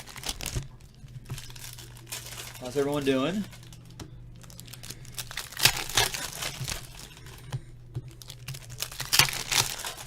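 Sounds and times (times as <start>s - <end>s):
plastic wrapping crinkling and tearing: 0.0s - 10.0s.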